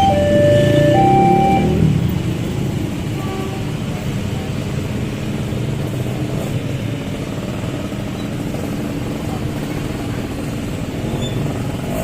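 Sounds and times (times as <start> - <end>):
heavy truck engine rumbling: 0.0 - 12.0
road noise: 0.0 - 12.0.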